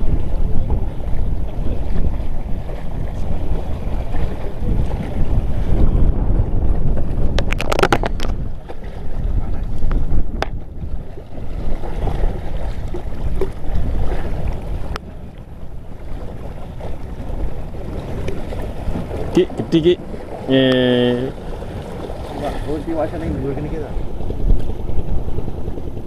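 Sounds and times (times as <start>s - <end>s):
choppy sea water: 0.0s - 26.0s
wind buffeting microphone: 0.0s - 26.0s.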